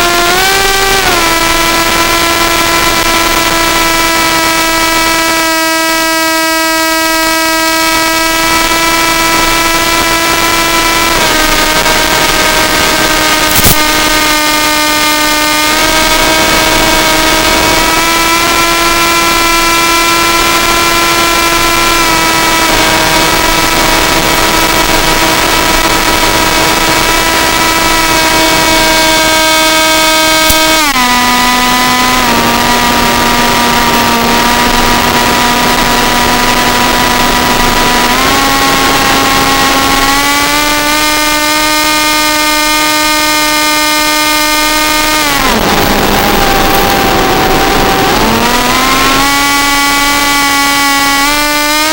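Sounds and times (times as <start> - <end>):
small propeller motor whining: 0.0 - 51.9.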